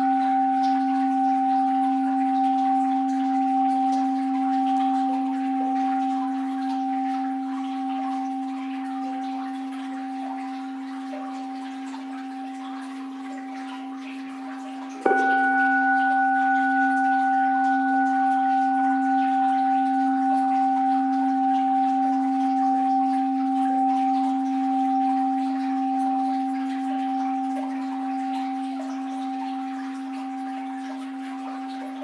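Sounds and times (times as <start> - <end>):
bowl bell ringing: 0.0 - 32.0.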